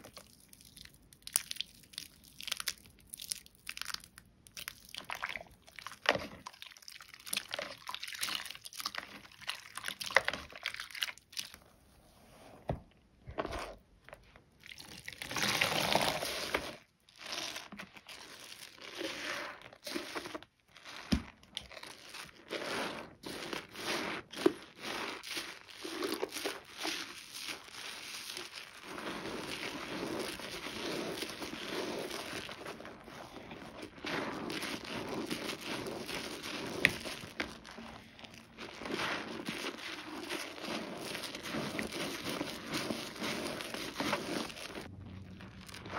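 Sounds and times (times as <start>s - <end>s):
wet soap lather squishing: 0.0s - 12.0s, 13.1s - 45.9s.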